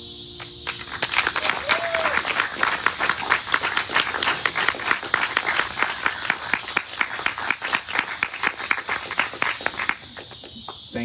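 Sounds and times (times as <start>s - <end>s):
insects buzzing: 0.0s - 11.0s
crowd applauding: 0.4s - 10.9s.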